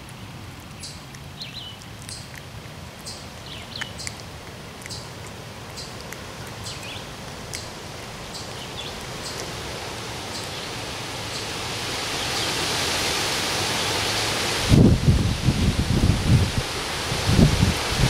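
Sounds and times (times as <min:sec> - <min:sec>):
wind and rustling: 0:00.0 - 0:18.0.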